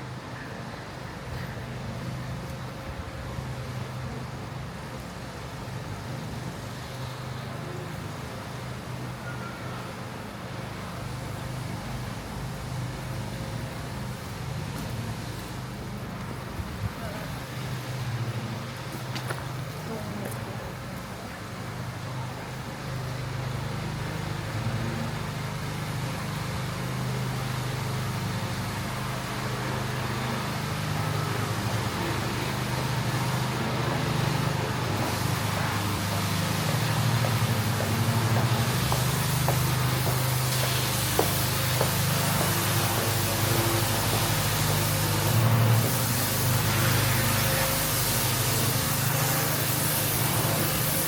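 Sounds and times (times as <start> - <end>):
street noise: 0.0 - 51.0
vehicle engine humming: 0.0 - 51.0.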